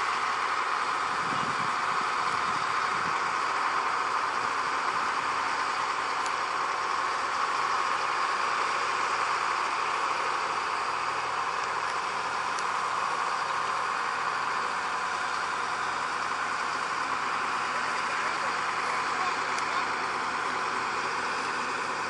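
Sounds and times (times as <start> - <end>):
heavy machinery engine idling: 0.0 - 22.0.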